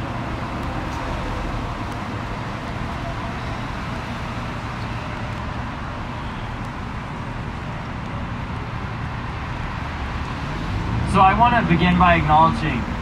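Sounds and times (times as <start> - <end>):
city traffic rumble: 0.0 - 13.0
traffic hiss: 0.0 - 13.0.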